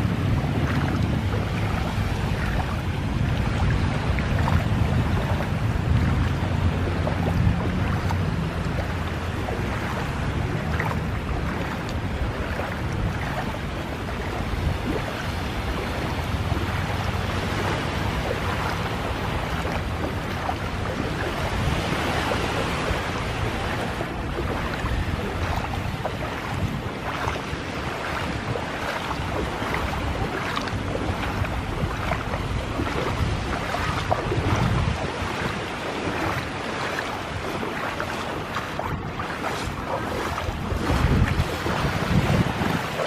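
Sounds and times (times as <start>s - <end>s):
motorboat engine rumble: 0.0s - 43.0s
rushing water: 0.0s - 43.0s
wind buffeting microphone: 0.0s - 43.0s.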